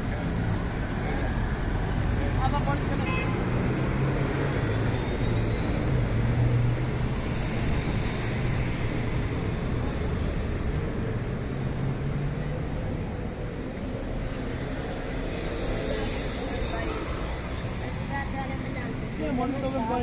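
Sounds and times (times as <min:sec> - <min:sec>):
buses and cars passing: 0:00.0 - 0:20.0.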